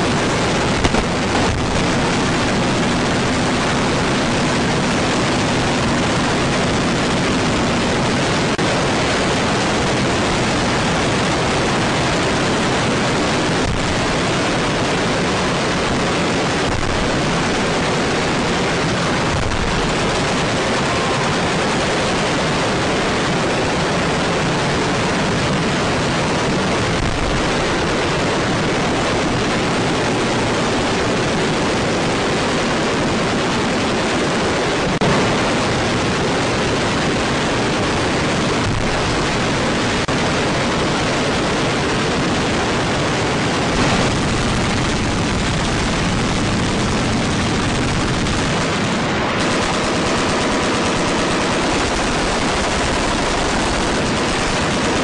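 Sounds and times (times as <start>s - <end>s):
machine-gun fire: 0.0s - 55.0s.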